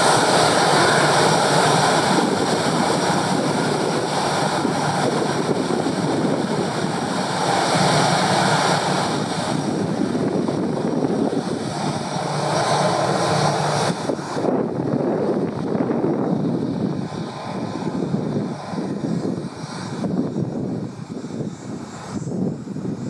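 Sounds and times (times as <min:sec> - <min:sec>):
jet engines at taxi power: 0:00.0 - 0:23.0.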